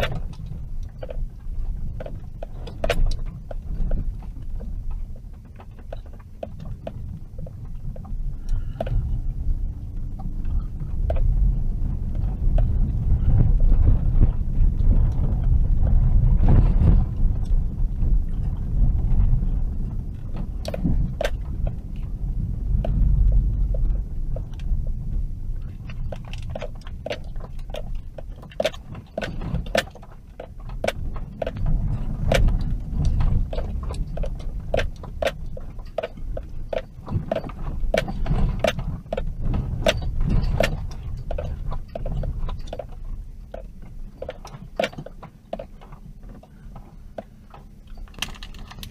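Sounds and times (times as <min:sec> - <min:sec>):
sharp clicks and rattles: 0:00.0 - 0:48.9
vehicle engine and tyres rumbling: 0:00.0 - 0:48.9.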